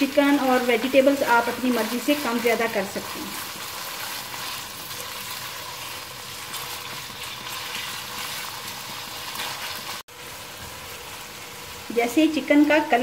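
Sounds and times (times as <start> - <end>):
chicken sizzling in hot oil: 0.0 - 13.0
spatula stirring in wok: 0.4 - 11.7.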